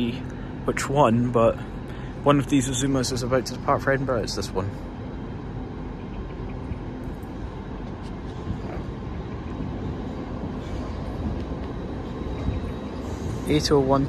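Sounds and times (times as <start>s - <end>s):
trains rumbling and humming: 0.0s - 14.0s.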